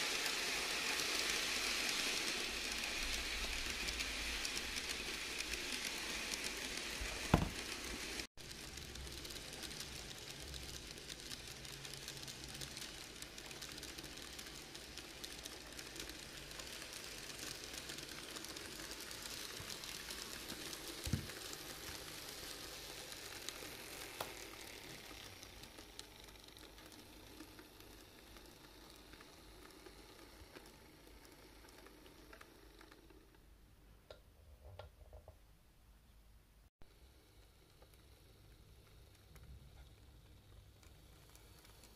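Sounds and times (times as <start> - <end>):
model train rolling hiss: 0.0 - 33.4, 36.9 - 41.9
small wheels clicking over rail joints: 0.0 - 33.5, 37.0 - 41.9.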